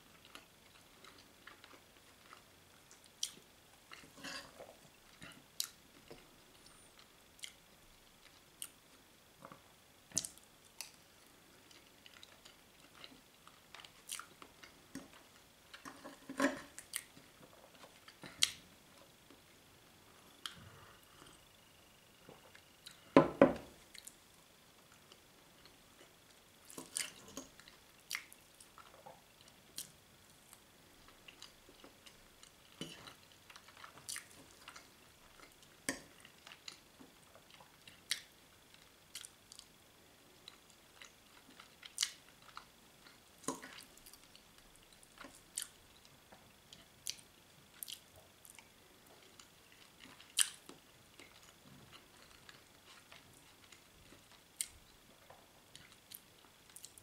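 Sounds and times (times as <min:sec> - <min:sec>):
faint high whine: 0:00.0 - 0:57.0
quiet chewing: 0:00.0 - 0:57.0.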